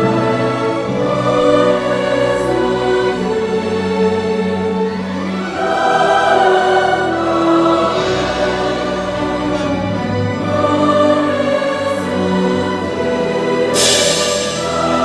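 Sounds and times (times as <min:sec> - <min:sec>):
vocal ensemble singing chords: 0:00.0 - 0:15.0.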